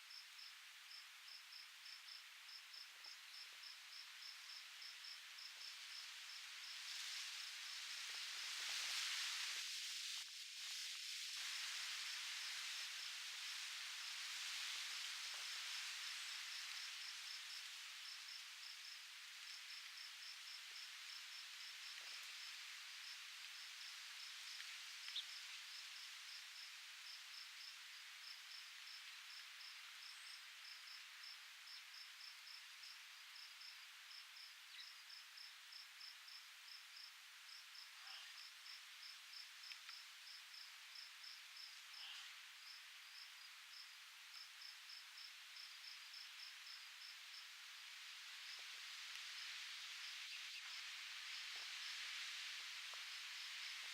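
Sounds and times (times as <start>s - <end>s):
cricket chirping: 0.0s - 9.7s, 11.4s - 53.9s
faint wind hiss: 0.0s - 53.9s.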